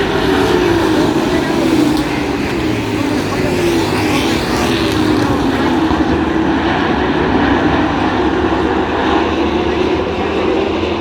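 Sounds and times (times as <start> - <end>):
race truck engines passing: 0.0 - 11.0.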